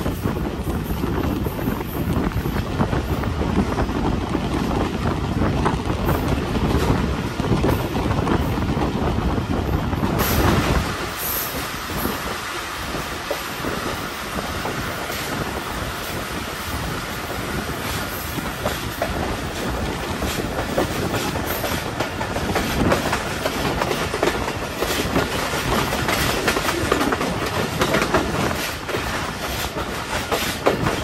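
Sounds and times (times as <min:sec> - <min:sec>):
train wheels clattering: 0:00.0 - 0:31.0.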